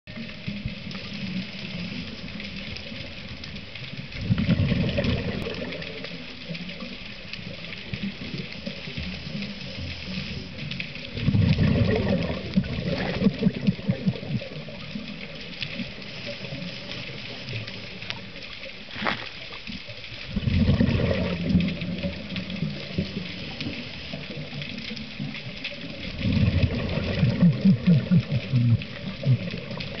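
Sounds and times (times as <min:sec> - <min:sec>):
exhaled bubbles underwater: 0:00.1 - 0:30.0.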